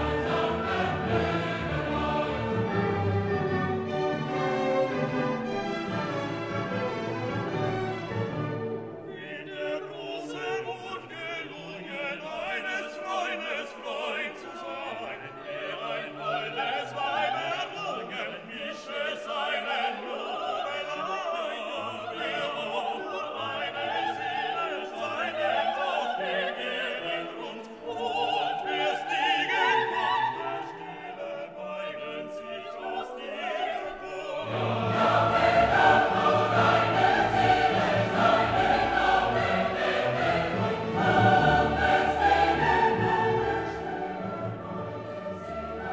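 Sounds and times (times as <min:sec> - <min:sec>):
orchestral music with operatic singing: 0:00.0 - 0:45.9.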